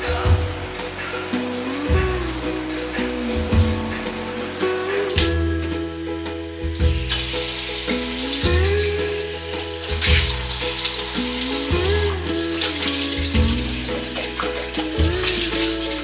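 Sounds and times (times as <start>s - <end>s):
steady water hiss: 0.0s - 5.2s, 6.8s - 16.0s
background music with bass: 0.0s - 16.0s.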